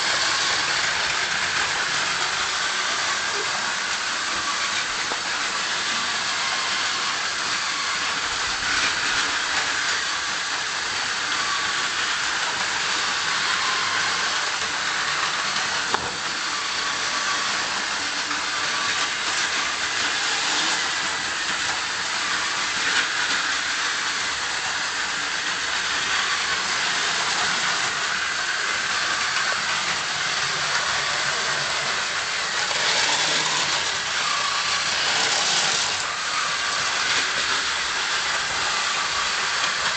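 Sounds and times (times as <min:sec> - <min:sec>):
plastic wheels rattling on track: 0:00.0 - 0:39.9
toy train motors whirring: 0:00.0 - 0:39.9.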